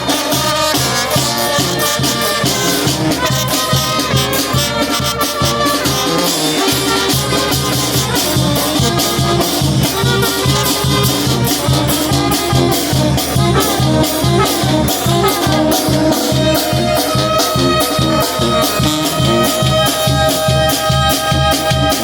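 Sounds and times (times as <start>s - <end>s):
brass band playing: 0.0s - 22.0s
percussion beat: 0.0s - 22.0s.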